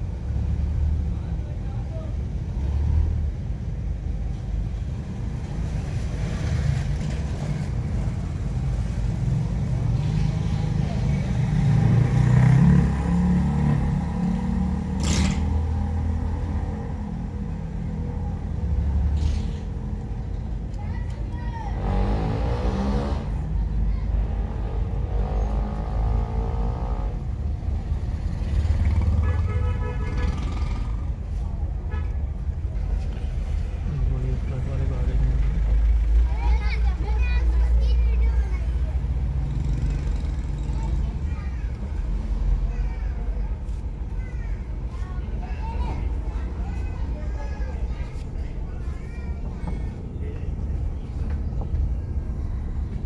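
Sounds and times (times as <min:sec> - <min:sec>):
light street traffic: 0:00.0 - 0:53.0
vehicle engine rumbling: 0:00.0 - 0:53.0.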